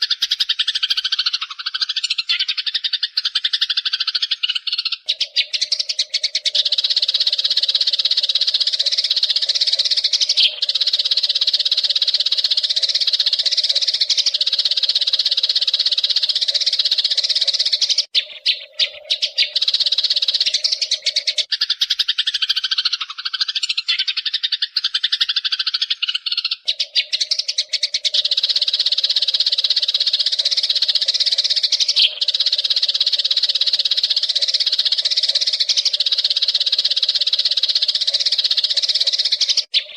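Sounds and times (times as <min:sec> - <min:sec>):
lower wavering bird calls: 0:00.0 - 0:39.9
sparrows chattering: 0:00.0 - 0:39.9.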